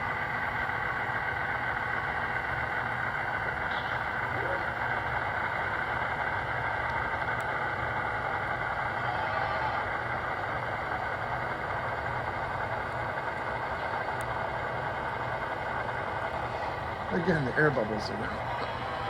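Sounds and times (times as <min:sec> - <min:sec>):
diesel engine idling through small speaker: 0:00.0 - 0:19.0.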